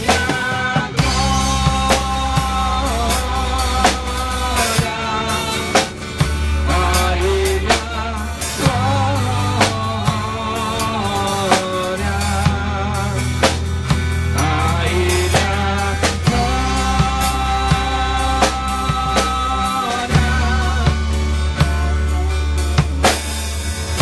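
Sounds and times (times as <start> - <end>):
bass line: 0.0 - 24.0
drum kit beat: 0.0 - 24.0.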